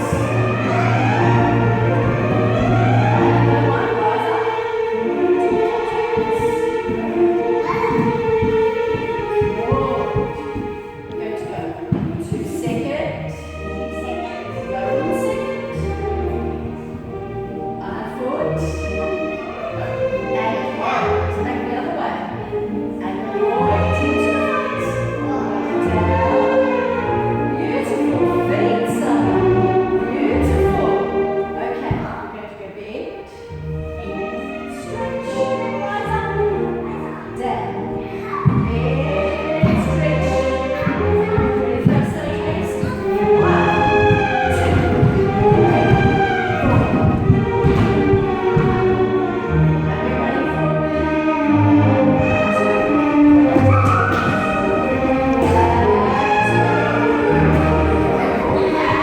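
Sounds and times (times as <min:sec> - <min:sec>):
music with long held notes: 0:00.0 - 0:59.0.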